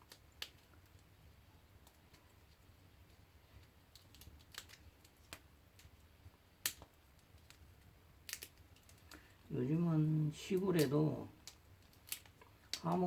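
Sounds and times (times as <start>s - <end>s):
wood fire popping: 0.0s - 13.0s.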